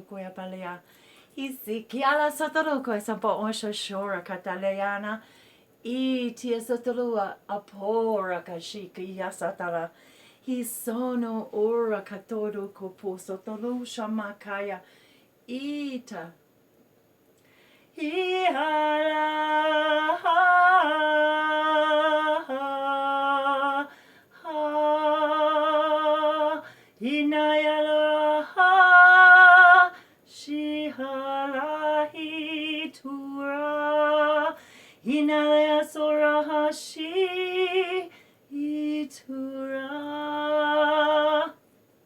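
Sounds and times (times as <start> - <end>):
woman singing unaccompanied: 0.0 - 16.4, 17.9 - 41.7.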